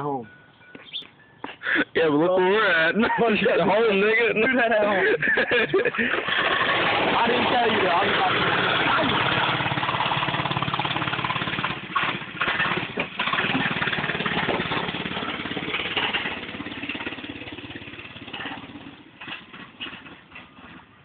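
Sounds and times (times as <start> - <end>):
pit bike engine revving: 2.6 - 20.8.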